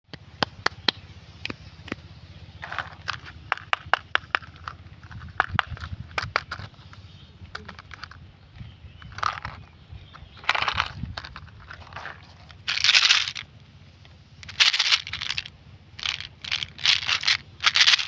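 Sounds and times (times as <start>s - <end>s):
low steady hum: 0.1s - 18.0s.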